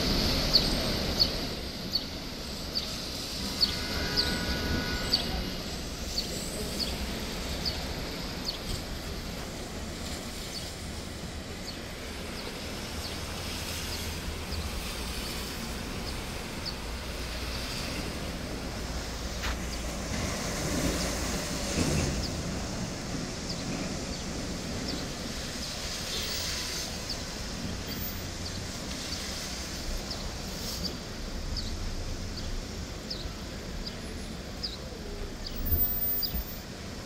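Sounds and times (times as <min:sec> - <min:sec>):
heavy rain: 0:00.0 - 0:37.0
low traffic rumble: 0:00.0 - 0:37.0.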